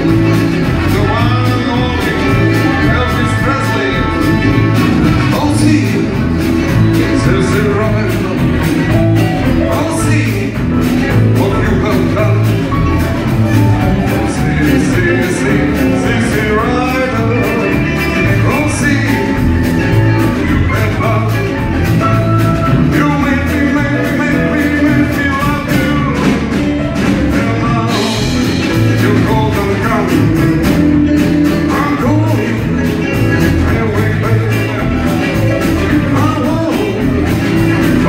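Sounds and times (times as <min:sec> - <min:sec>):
bass guitar: 0:00.0 - 0:38.0
drum kit beat: 0:00.0 - 0:38.0
electric guitar: 0:00.0 - 0:38.0
keyboards: 0:00.0 - 0:38.0
man singing: 0:00.0 - 0:38.0.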